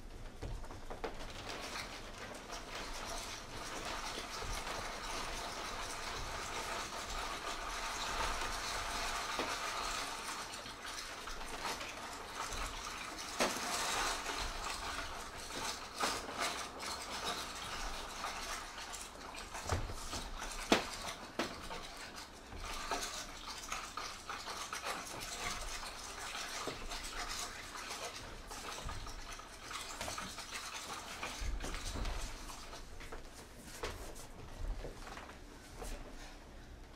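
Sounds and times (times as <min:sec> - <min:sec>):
scraping and rubbing objects: 0:00.7 - 0:36.4.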